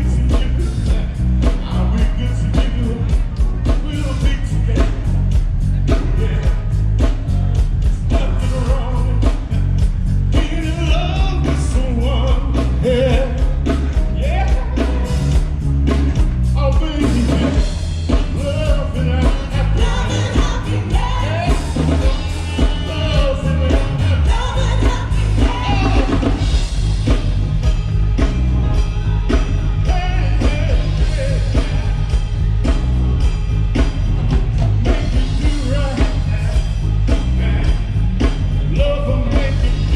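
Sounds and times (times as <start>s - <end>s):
rock and roll music with singer: 0.0s - 39.9s.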